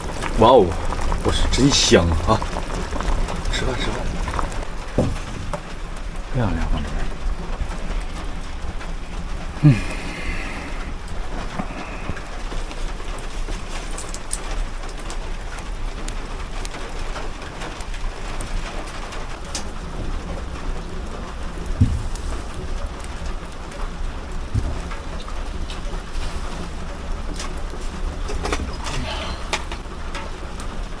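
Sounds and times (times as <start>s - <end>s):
rain on a metal vehicle: 0.0s - 31.0s.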